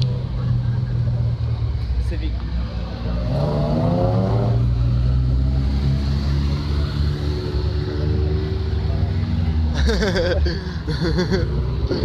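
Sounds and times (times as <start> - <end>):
car engine revving: 0.0 - 10.1
car engines running: 0.0 - 12.0.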